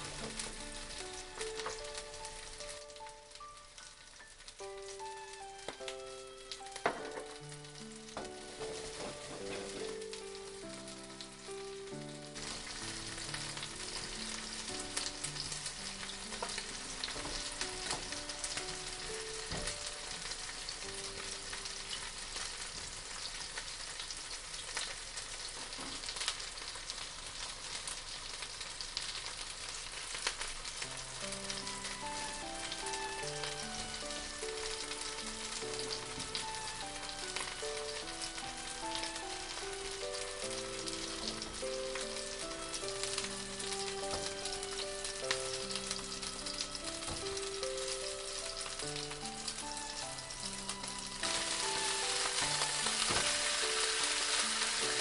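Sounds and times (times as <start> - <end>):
soft melodic background music: 0.0 - 22.7, 30.5 - 55.0
food sizzling in a pan: 0.0 - 55.0.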